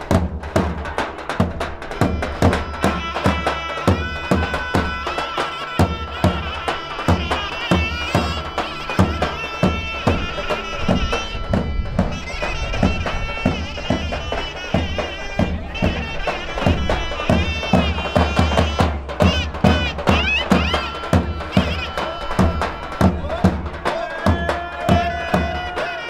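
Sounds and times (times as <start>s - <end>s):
drum beats: 0.0s - 26.0s
reedy wind instrument melody: 1.6s - 26.0s.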